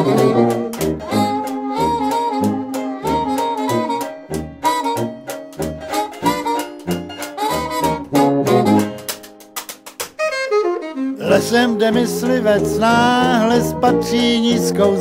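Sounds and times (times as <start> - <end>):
up-tempo jazz music: 0.0 - 15.0.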